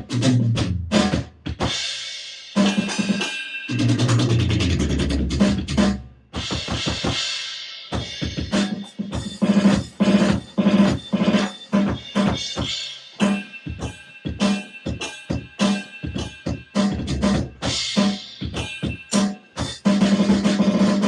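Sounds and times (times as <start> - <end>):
electronic drum kit groove: 0.0 - 21.0.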